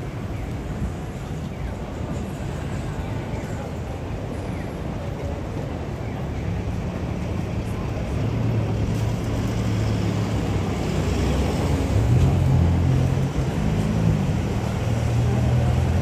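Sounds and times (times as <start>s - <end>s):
noisy street background: 0.0s - 16.0s
vehicle engines running: 0.0s - 16.0s.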